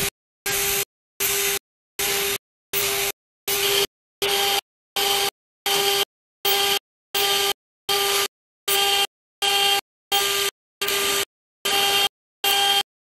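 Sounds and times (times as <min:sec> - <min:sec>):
engraving machine spindle whine: 0:00.0 - 0:12.8.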